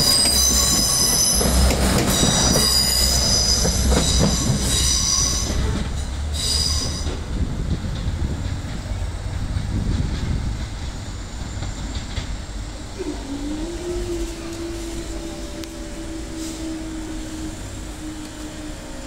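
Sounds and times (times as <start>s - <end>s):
diesel train rumble: 0.0s - 19.0s.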